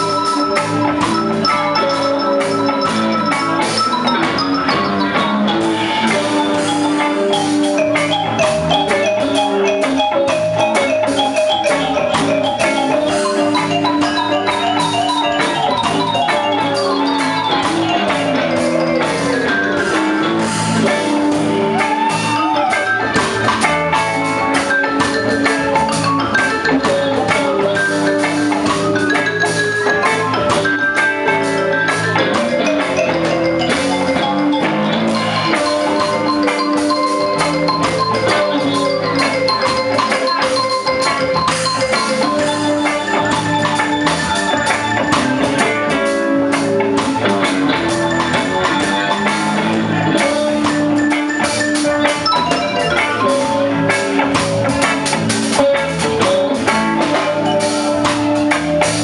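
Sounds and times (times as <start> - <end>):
mallet-like melody: 0.0 - 59.0
rock band playing: 0.0 - 59.0.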